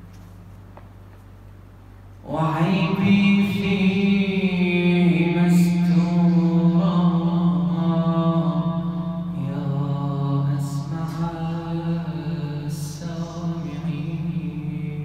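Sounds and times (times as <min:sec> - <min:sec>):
man chanting: 0:02.2 - 0:15.0.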